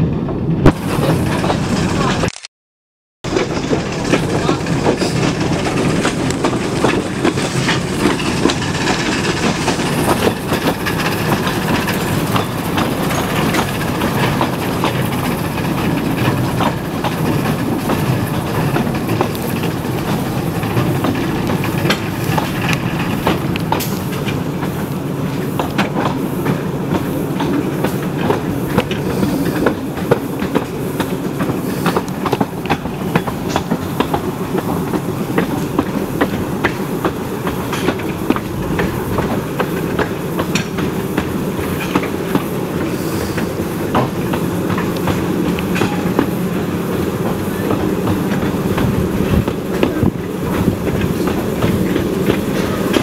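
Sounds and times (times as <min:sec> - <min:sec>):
wheels rumbling and rattling on rail: 0:00.0 - 0:02.3, 0:03.2 - 0:53.0
wheel clicks over rail joints: 0:03.3 - 0:53.0.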